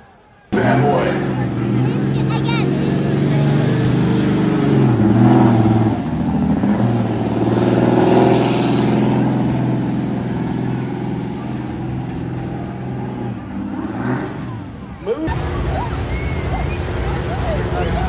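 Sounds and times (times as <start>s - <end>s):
loud vehicle engine running: 0.5s - 18.0s.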